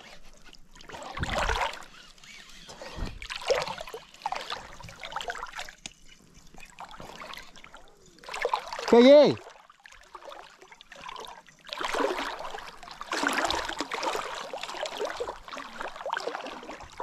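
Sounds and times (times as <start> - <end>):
water splashing around boat: 0.0 - 17.0.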